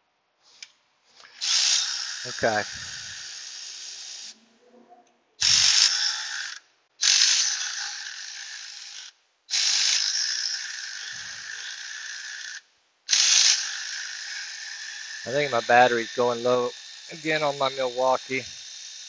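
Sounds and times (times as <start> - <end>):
cordless electric ratchet running: 1.3 - 4.4, 5.4 - 19.0.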